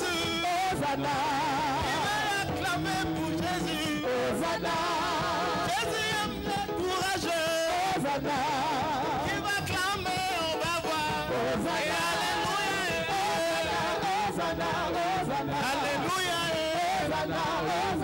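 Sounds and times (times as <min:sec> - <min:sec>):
band playing worship music: 0:00.0 - 0:18.0
person singing with vibrato: 0:00.0 - 0:18.0.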